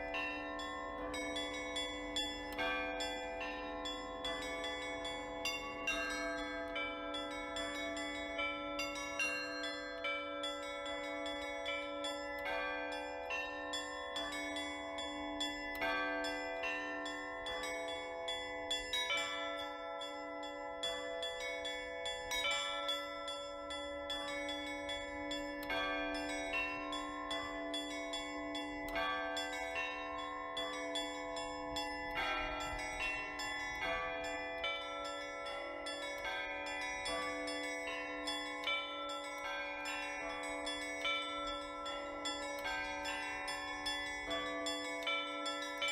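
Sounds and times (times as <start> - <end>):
hum of large bells: 0.0 - 45.9
small church bells ringing: 0.0 - 45.9.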